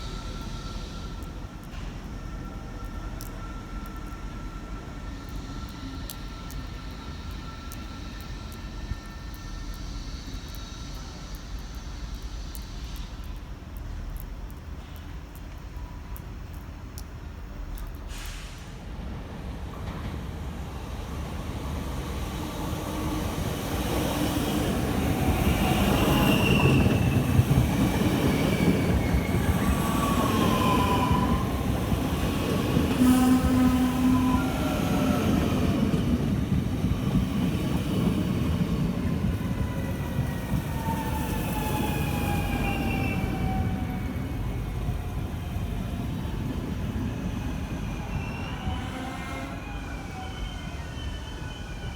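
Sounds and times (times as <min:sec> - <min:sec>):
train wheels squealing: 0:00.0 - 0:13.7, 0:19.7 - 0:51.9
train rumble: 0:00.0 - 0:51.9.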